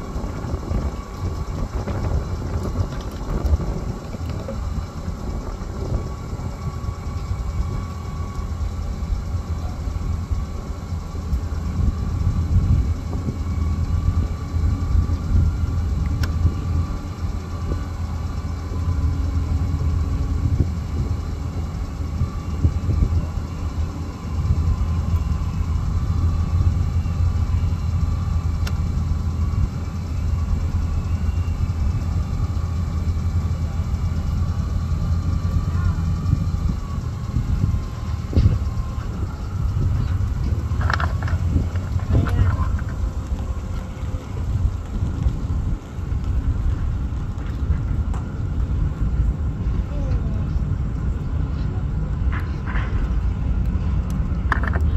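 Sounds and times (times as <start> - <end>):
low rumble: 0.0 - 54.9.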